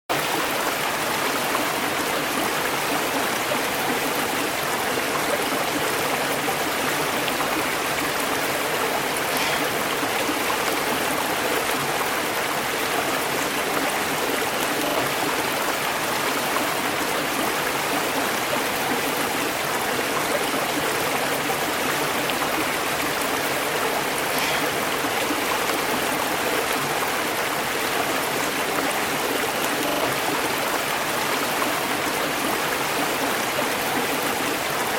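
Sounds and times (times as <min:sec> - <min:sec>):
river water flowing over rocks: 0:00.1 - 0:34.9.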